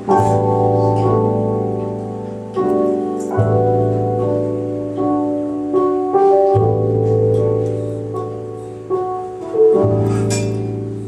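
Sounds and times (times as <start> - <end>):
electric keyboard chords: 0.0 - 11.0.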